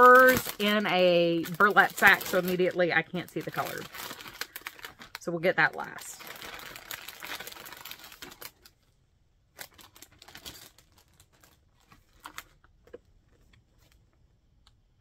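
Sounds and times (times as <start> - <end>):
packaging rustling and crinkling: 0.0 - 8.9, 9.5 - 14.3.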